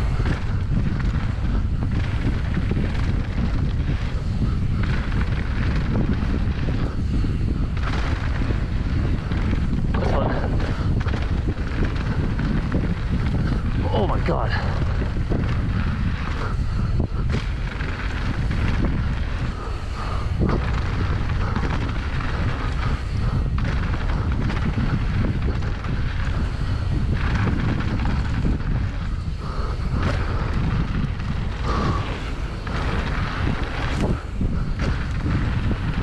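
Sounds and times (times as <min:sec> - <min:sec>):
bike rattling knocks: 0:00.0 - 0:36.0
tyre and trail noise: 0:00.0 - 0:36.0
wind buffeting microphone: 0:00.0 - 0:36.0.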